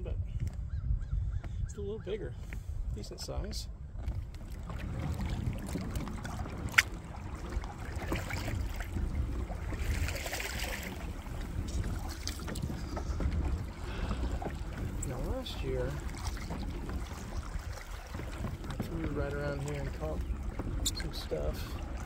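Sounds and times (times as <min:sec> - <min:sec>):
water sloshing against hull: 0:00.0 - 0:22.0
wind rumble on microphone: 0:00.0 - 0:22.0.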